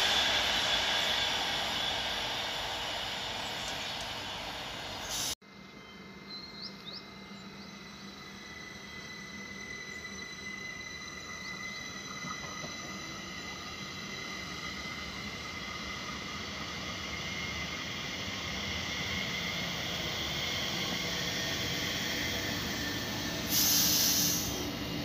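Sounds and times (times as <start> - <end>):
electric train whine: 0.0 - 25.0.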